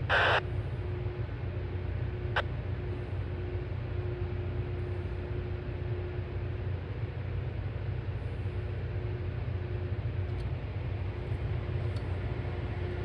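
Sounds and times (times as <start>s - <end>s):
faint steady hum: 0.0s - 13.0s
rail equipment rumble: 0.0s - 13.0s.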